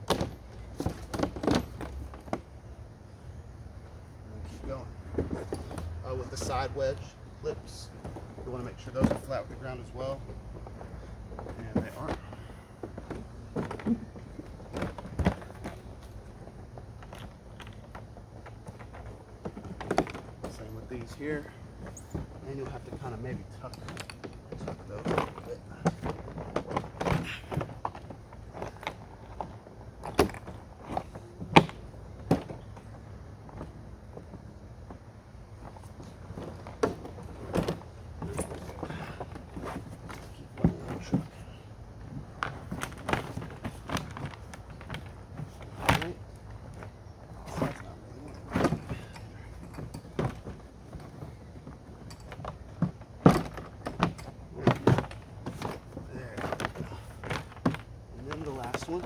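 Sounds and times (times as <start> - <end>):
plastic hull knocks and clacks: 7.8 - 59.0.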